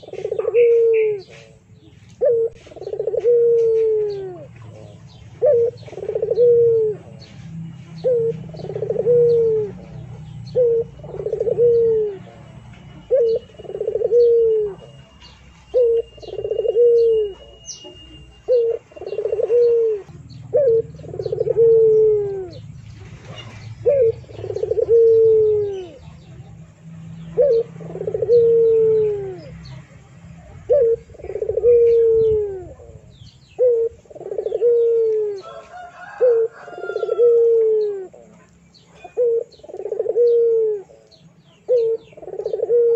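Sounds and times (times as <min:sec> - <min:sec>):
bird calls: 0:00.0 - 0:42.9.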